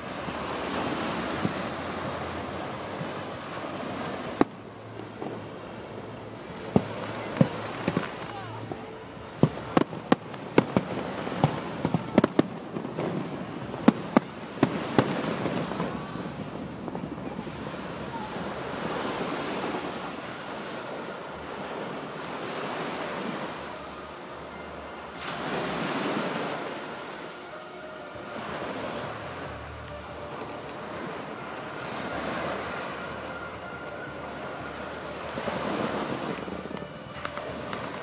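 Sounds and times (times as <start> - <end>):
surf breaking on beach: 0.0 - 38.0.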